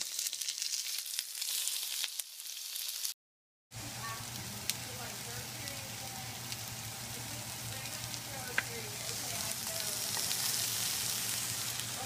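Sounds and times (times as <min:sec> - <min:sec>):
chicken sizzling in oil: 0:00.0 - 0:03.2, 0:03.8 - 0:12.0.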